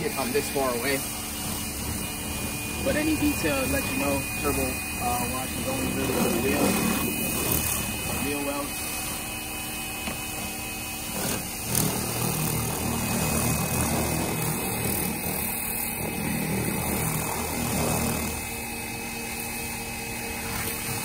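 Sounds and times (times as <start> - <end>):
low pump hum: 0.0 - 21.0
pressure washer spraying water: 0.0 - 21.0.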